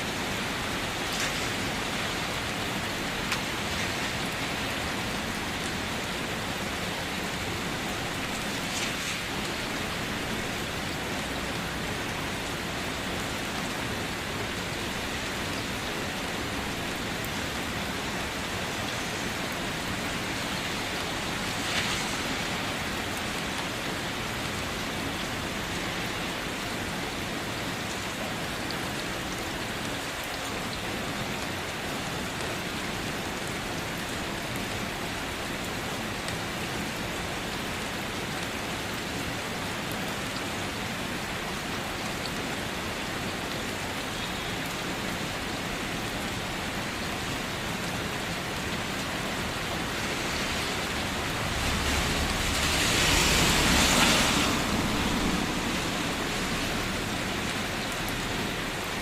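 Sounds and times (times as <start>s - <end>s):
rain falling on a surface: 0.0s - 59.0s
rain spatter: 0.0s - 59.0s.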